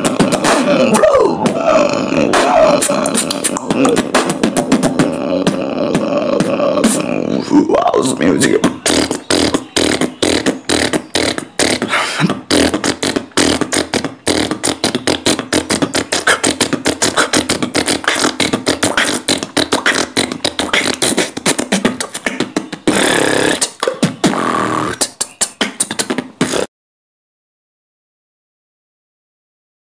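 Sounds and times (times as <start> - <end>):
hummed voice: 0.0 - 26.7
person beatboxing: 0.0 - 26.7.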